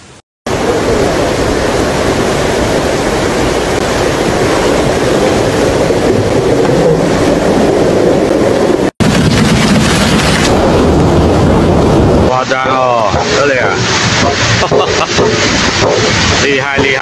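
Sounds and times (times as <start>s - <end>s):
floodwater rushing over concrete: 0.5s - 17.0s.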